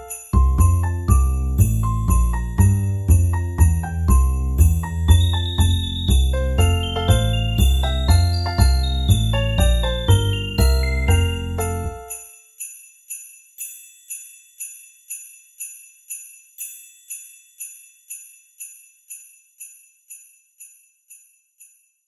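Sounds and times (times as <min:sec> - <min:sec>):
jingle bells shaken: 0:00.0 - 0:22.0.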